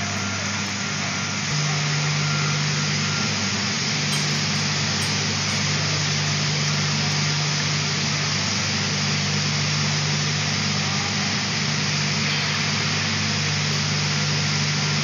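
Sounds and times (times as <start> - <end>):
shot blasting machine drone: 0.0 - 15.0.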